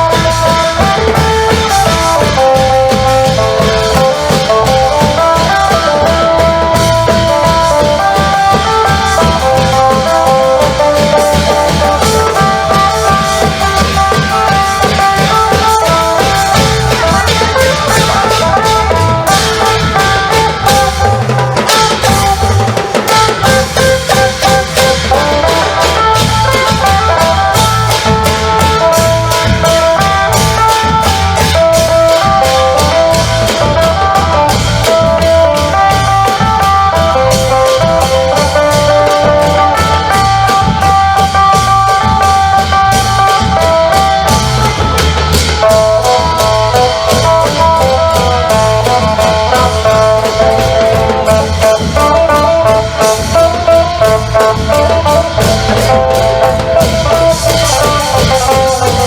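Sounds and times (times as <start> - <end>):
driving drum rhythm: 0.0 - 59.0
lute melody: 0.0 - 59.0
sharp percussion strikes: 0.0 - 59.0.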